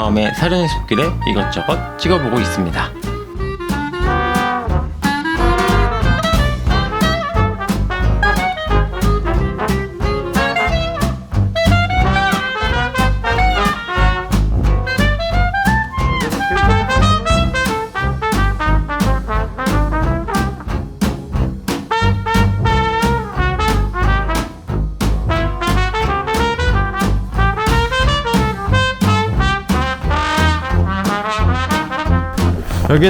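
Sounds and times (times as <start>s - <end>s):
upbeat jazzy brass music: 0.0s - 33.0s.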